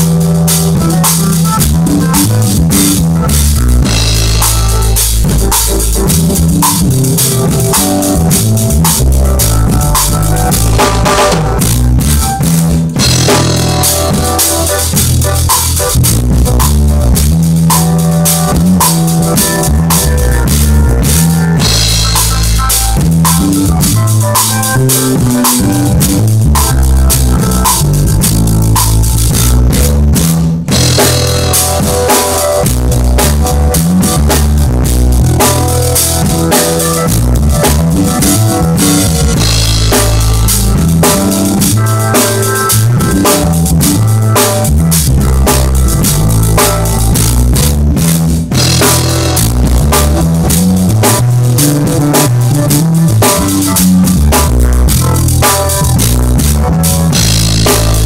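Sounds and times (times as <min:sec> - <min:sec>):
drum kit played hard: 0:00.0 - 0:58.0
music with bass and chords: 0:00.0 - 0:58.0.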